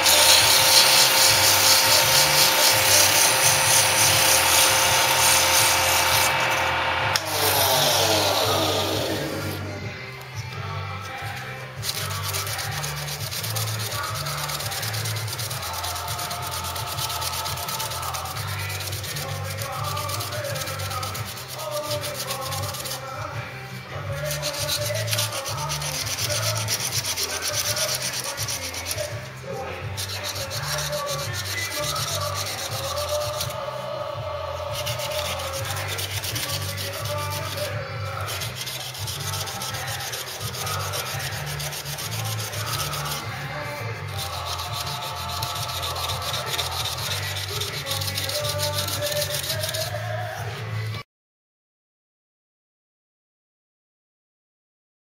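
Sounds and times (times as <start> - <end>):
sandpaper rasping on spinning lathe: 0.0 - 9.8, 11.0 - 23.3, 24.0 - 33.9, 34.5 - 50.1.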